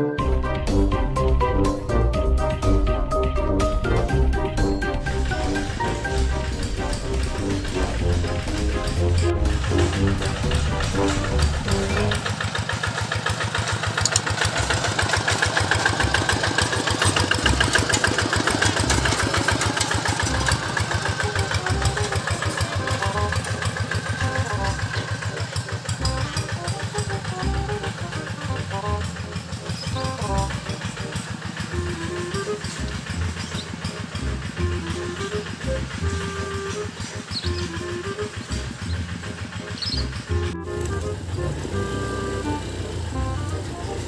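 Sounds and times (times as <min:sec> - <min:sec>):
background music: 0:00.0 - 0:12.3, 0:15.9 - 0:44.0
single-cylinder diesel engine running: 0:00.0 - 0:44.0.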